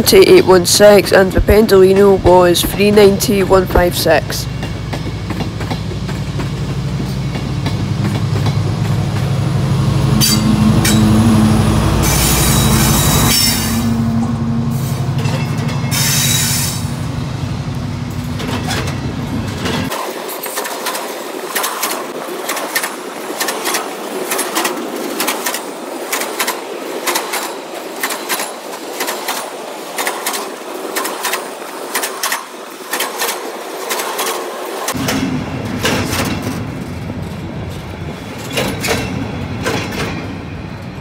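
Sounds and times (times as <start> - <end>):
station ambience: 0.0 - 41.0
train low rumble: 0.0 - 41.0.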